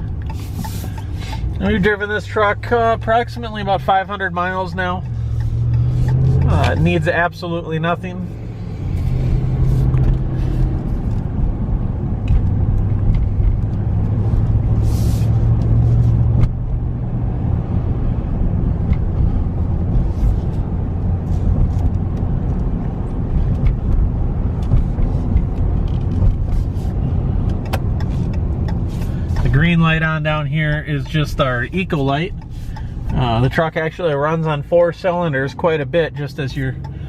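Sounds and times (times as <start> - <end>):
engine and tyre drone in cab: 0.0 - 37.0.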